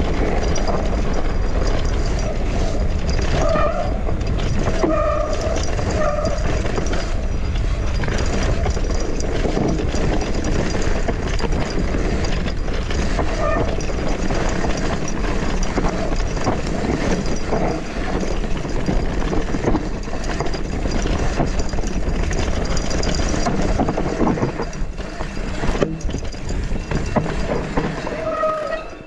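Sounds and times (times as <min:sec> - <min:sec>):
bike rattling: 0:00.0 - 0:29.0
bike tyres rumbling on dirt: 0:00.0 - 0:29.0.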